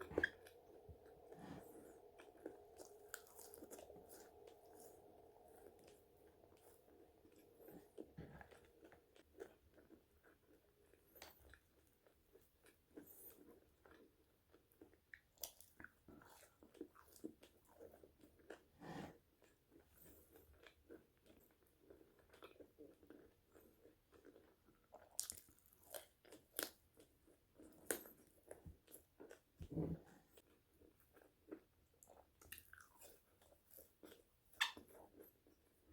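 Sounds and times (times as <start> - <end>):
chewing french fries: 0.0 - 35.9.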